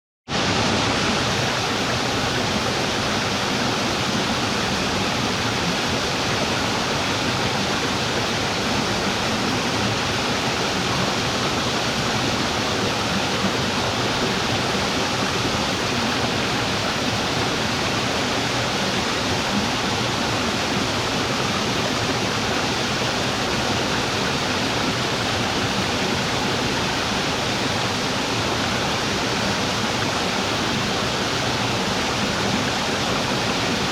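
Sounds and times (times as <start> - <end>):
waterfall splashing: 0.3 - 33.9.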